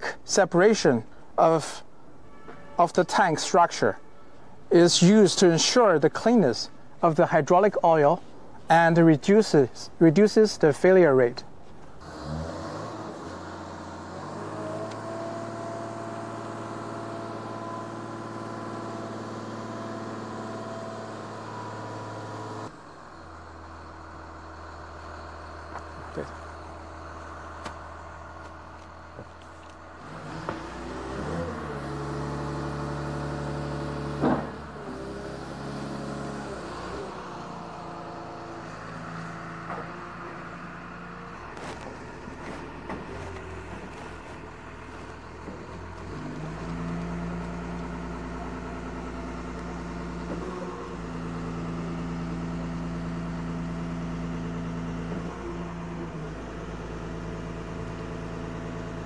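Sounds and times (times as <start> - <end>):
forklift engine running: 11.5 - 59.0.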